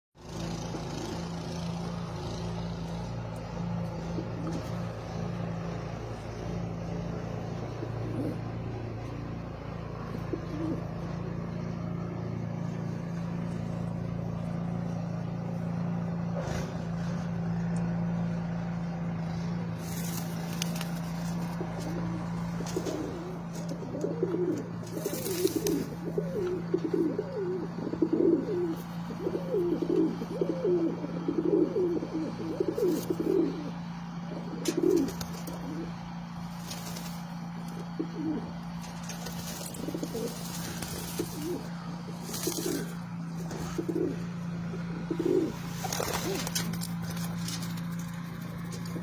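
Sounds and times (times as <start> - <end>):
low mechanical hum: 0.2 - 49.0
pigeons cooing: 0.2 - 49.0.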